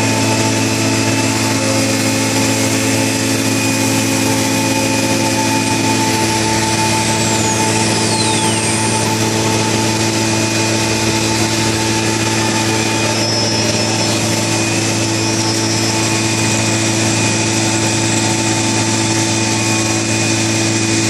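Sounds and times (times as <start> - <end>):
wood router running: 0.0 - 21.0.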